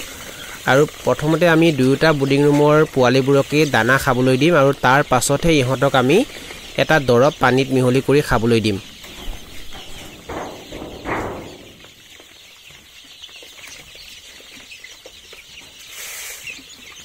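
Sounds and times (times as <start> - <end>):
chicks cheeping: 0.0 - 17.0.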